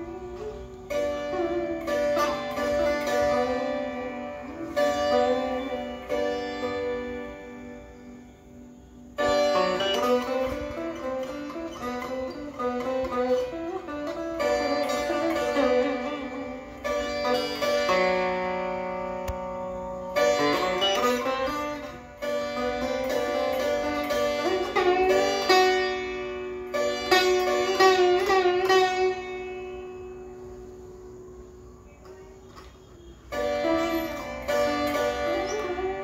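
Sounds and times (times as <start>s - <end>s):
sitar playing: 0.0s - 36.0s.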